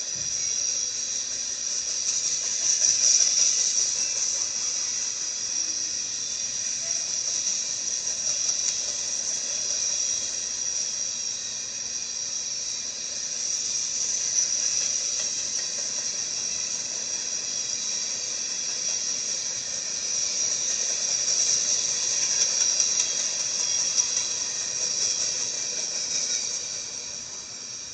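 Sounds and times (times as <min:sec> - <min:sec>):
freight train rolling past: 0:00.0 - 0:27.9.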